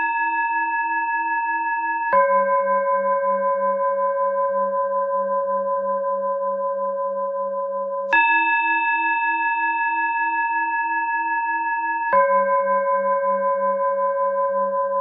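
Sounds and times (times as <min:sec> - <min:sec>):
high singing bowl tone: 0:00.0 - 0:15.0
low singing bowl tone: 0:00.0 - 0:15.0.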